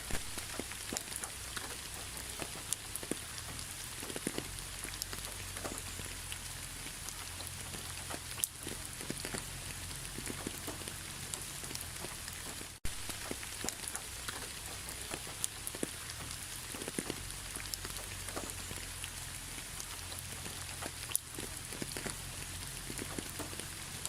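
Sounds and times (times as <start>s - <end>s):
raindrops ticking on a surface: 0.0s - 24.0s
steady rain: 0.0s - 24.0s.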